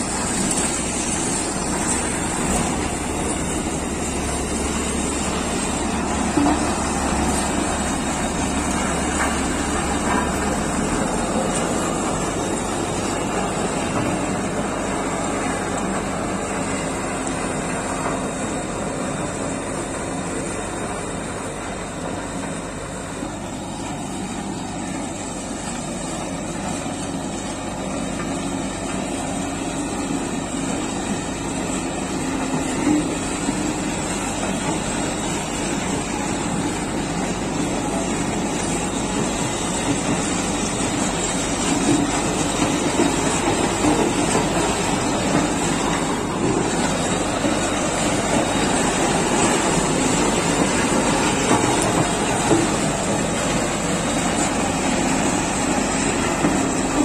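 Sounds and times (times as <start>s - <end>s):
road roller running over gravel: 0.0s - 57.0s.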